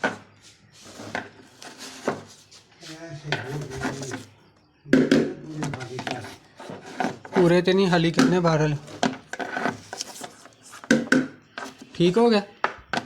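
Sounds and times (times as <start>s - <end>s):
scraping and rubbing: 0.0s - 4.4s, 5.2s - 12.3s.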